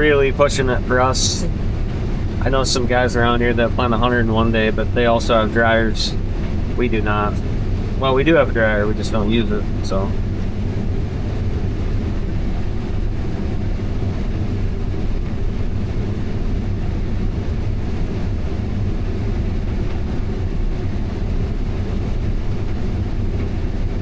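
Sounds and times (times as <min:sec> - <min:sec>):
farm machine engine drone: 0:00.0 - 0:24.0.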